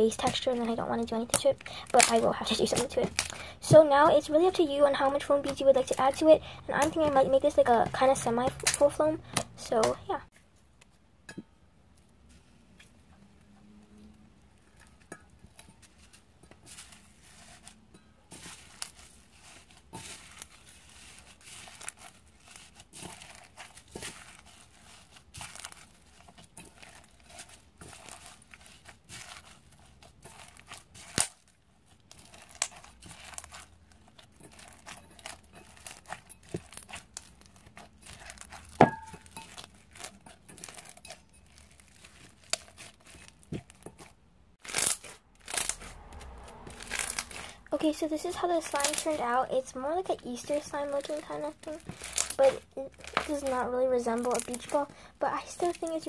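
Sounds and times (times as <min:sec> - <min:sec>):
slime crunching and crackling: 0:00.0 - 0:10.3, 0:14.5 - 0:56.0.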